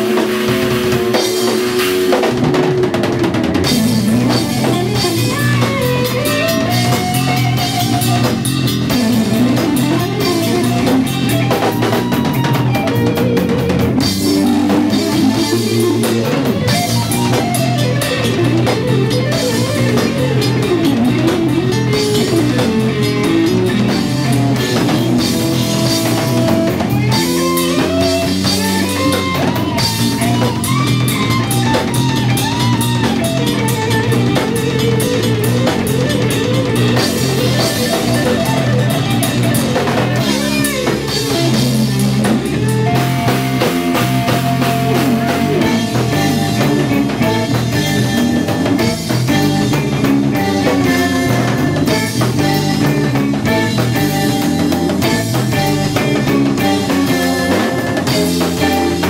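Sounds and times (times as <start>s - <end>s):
electric guitar lead: 0.0s - 59.0s
jazz-rock band playing: 0.0s - 59.0s.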